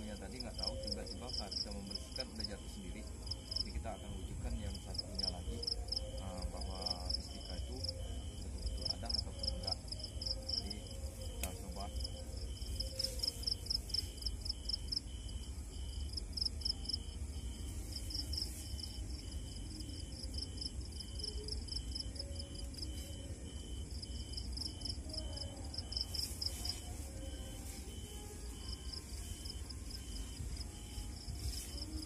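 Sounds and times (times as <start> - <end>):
cricket lower chirp: 0.0 - 32.0.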